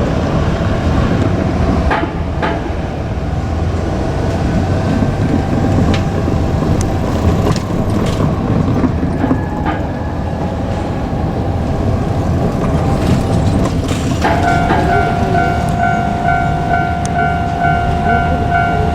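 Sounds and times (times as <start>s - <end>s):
diesel railcar rumble: 0.0s - 18.9s.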